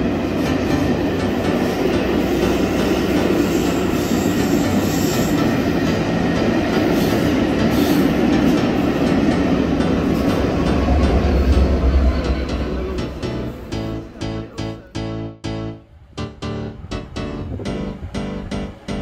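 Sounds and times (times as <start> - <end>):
train wheels rumbling on rails: 0.0 - 15.2, 15.9 - 19.0.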